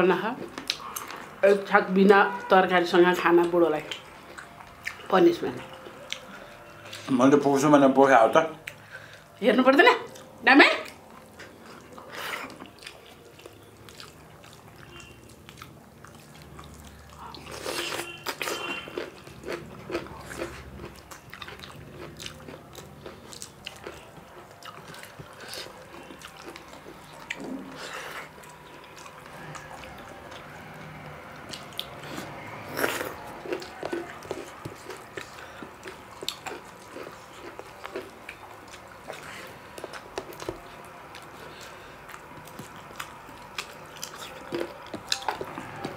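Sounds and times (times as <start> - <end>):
chewing and mouth sounds: 0.1 - 2.6, 3.2 - 7.6, 10.0 - 45.9.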